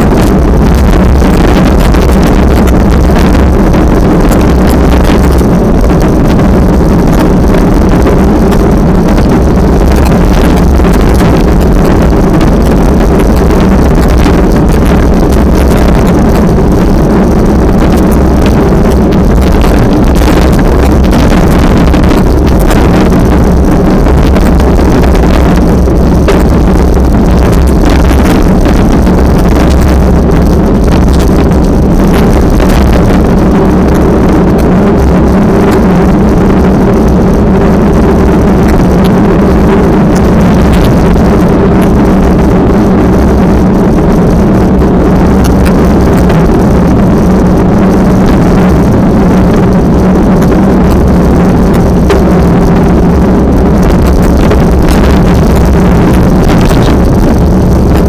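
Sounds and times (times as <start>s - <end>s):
low hum: 0.0s - 58.0s
strong wind on microphone: 0.0s - 58.0s.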